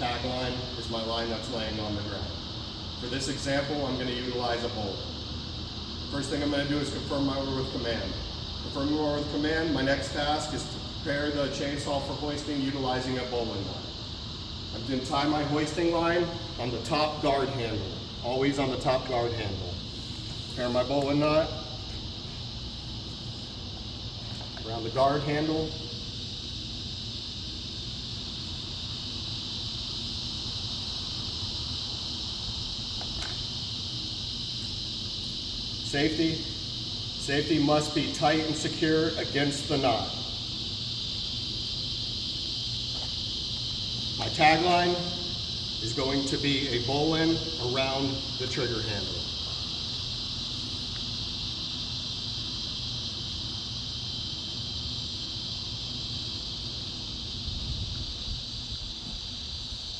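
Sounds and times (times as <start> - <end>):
high-pitched hiss: 0.0 - 59.9.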